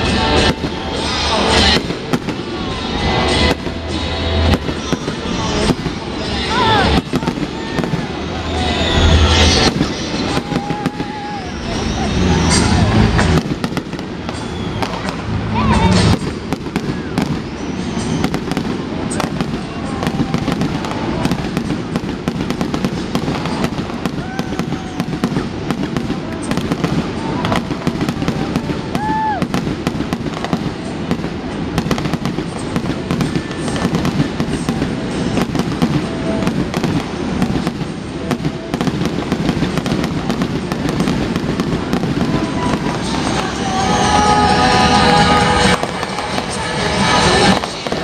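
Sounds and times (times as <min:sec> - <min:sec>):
fireworks popping and crackling: 0:00.0 - 0:48.0.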